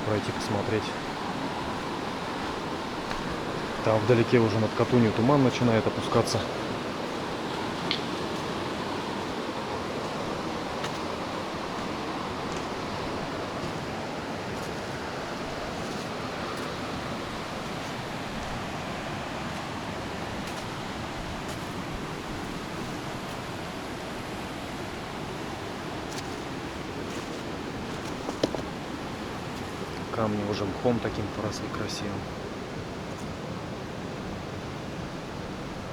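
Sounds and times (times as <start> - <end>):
river rushing over stones: 0.0 - 35.9.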